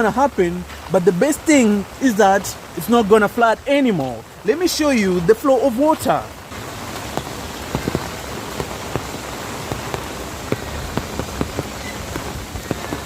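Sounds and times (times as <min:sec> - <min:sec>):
heavy rain falling: 0:00.0 - 0:13.0
raindrops splashing: 0:00.0 - 0:13.0.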